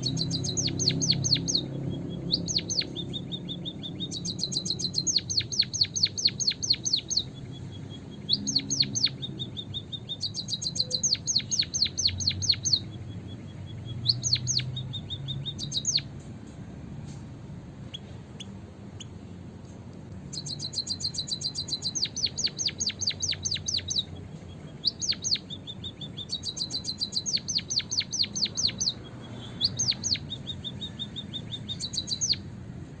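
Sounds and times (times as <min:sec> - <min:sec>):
rapid high bird ticking: 0:00.0 - 0:33.0.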